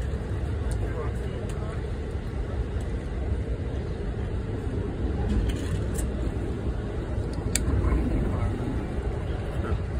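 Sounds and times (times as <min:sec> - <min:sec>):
train car rumble: 0:00.0 - 0:09.9.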